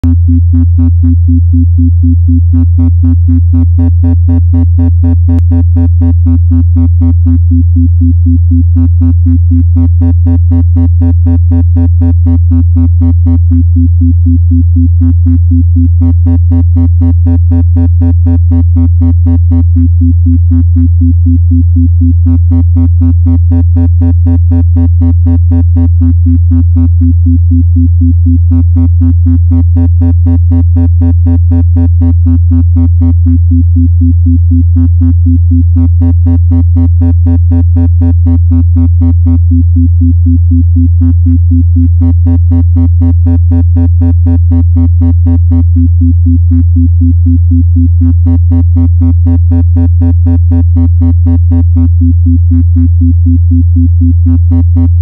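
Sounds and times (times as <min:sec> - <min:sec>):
pulsing electronic tone: 0:00.0 - 0:55.0
steady low hum: 0:00.0 - 0:55.0.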